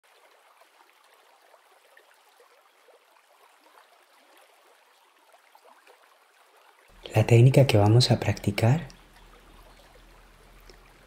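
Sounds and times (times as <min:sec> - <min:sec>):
faint trickling water: 0:00.0 - 0:11.0.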